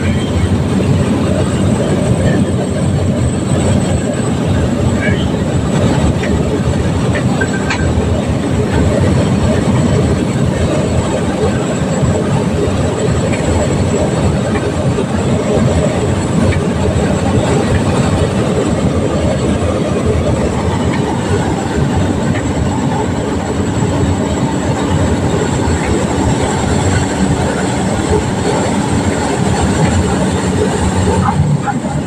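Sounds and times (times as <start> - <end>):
propeller plane engine: 0.0 - 32.0.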